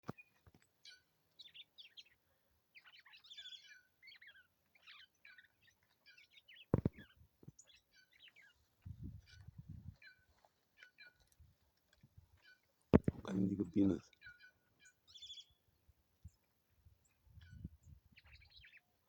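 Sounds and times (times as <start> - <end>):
birds chirping: 0.0 - 11.4, 12.4 - 19.0.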